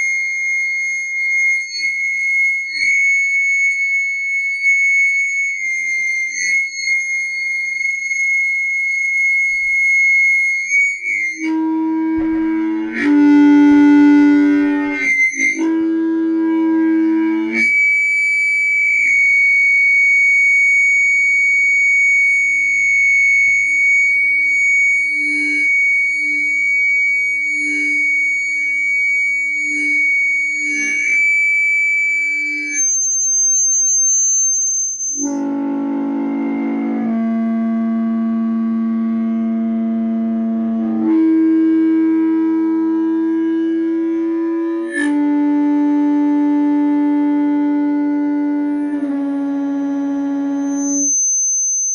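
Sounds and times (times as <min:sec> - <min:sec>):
speaker feedback squeal: 0:00.0 - 0:51.9.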